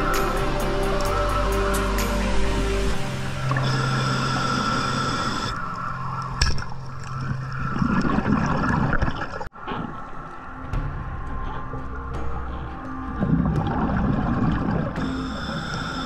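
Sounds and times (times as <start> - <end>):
underwater swishing and gurgling: 2.3 - 16.0.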